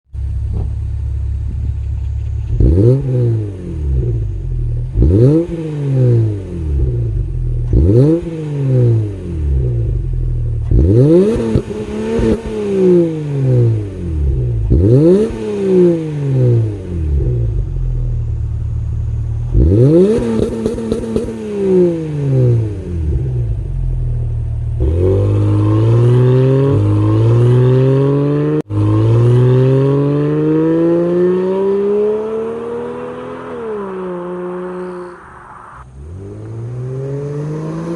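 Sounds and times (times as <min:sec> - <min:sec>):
car engine revving: 0:00.2 - 0:37.9.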